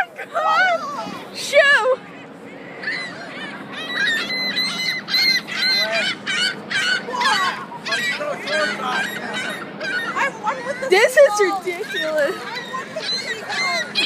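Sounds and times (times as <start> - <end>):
gulls squawking: 0.0 - 14.0.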